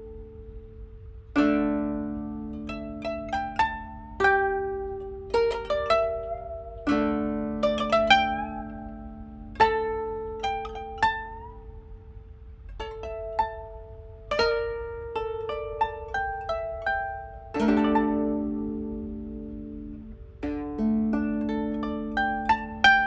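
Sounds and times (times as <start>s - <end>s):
koto duet plucked notes: 0.0s - 23.0s.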